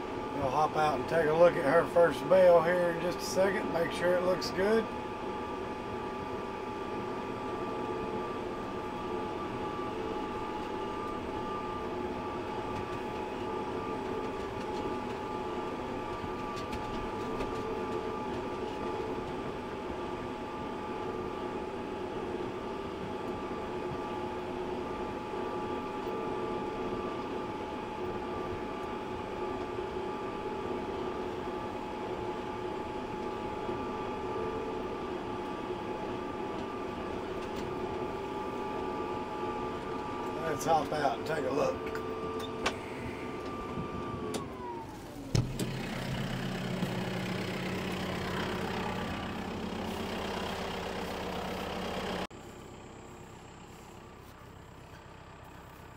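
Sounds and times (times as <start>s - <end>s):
held whining tones: 0.0s - 55.9s
tractor engine droning: 0.0s - 55.9s.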